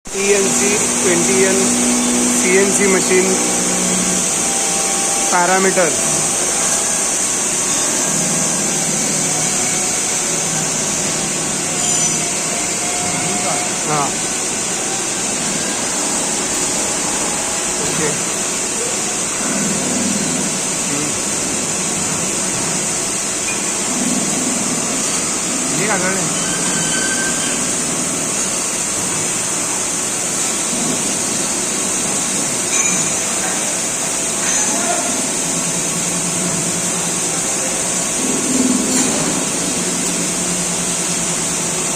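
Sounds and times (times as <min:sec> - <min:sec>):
machinery whirring hiss: 0:00.1 - 0:34.4.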